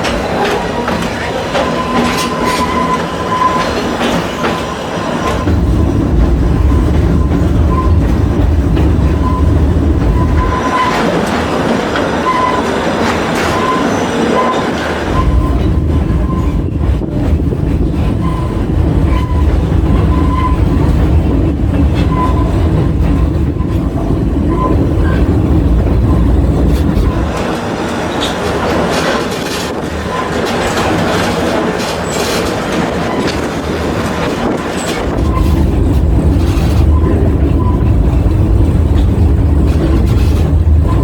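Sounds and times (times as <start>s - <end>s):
train rumbling and rattling on rails: 0.0s - 41.0s.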